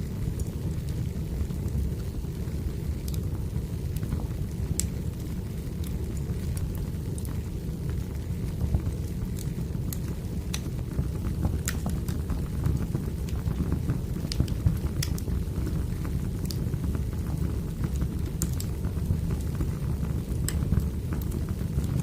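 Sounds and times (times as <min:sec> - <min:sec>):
fire rumbling: 0:00.0 - 0:22.0
firewood crackling and popping: 0:00.0 - 0:22.0.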